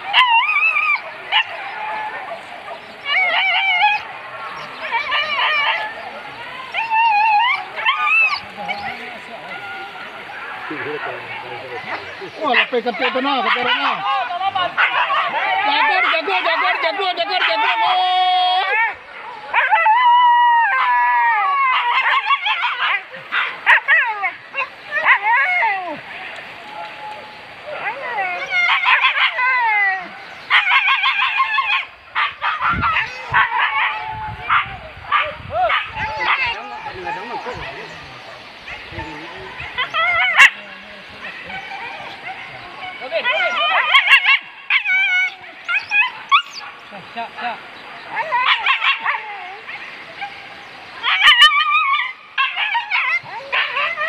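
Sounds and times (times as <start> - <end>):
dogs yelping and howling: 0.0 - 26.0, 27.6 - 46.8, 48.1 - 54.0.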